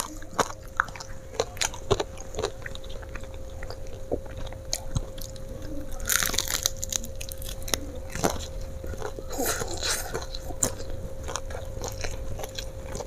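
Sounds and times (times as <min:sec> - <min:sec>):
chewing crispy fried chicken: 0:00.0 - 0:13.0
faint steady hum: 0:00.0 - 0:13.0.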